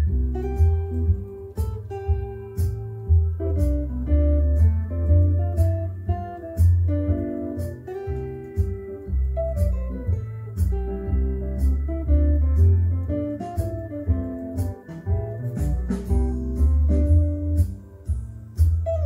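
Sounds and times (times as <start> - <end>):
bass: 0.0 - 19.0
electric guitar lead lines: 0.0 - 19.0
drum beat: 0.2 - 4.0, 4.6 - 10.9, 13.4 - 19.0.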